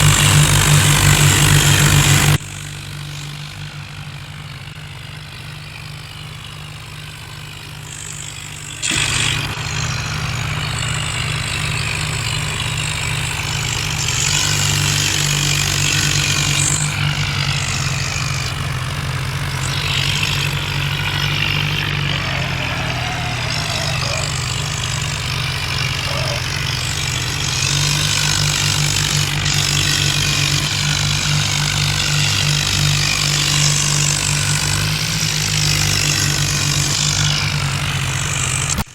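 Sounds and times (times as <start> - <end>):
diesel tractor engines under load: 0.0 - 38.9.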